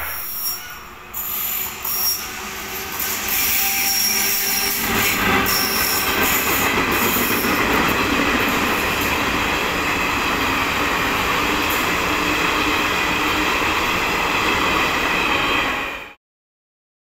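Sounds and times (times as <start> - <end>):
train wheels rushing on rails: 0.0 - 16.2.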